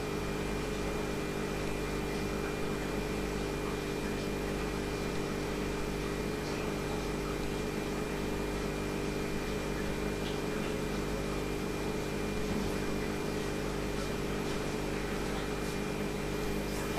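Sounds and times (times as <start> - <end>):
aquarium filter pump humming: 0.0 - 16.9.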